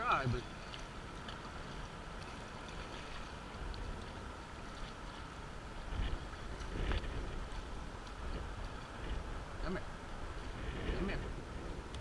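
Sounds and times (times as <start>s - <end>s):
water lapping around a kayak: 0.0s - 12.0s
wind rumbling on microphone: 0.0s - 12.0s.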